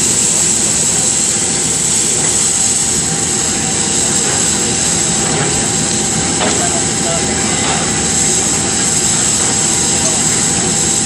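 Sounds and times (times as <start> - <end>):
high-pitched hiss: 0.0 - 11.0
wire saw cutting concrete: 1.7 - 11.0.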